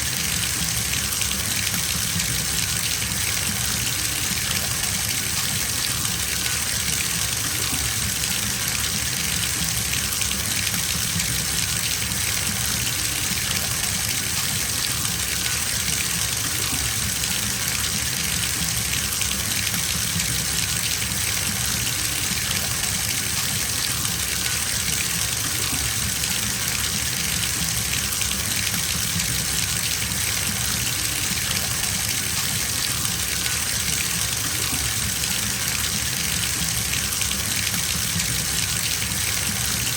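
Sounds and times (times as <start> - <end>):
water gushing into bathtub: 0.0 - 39.9.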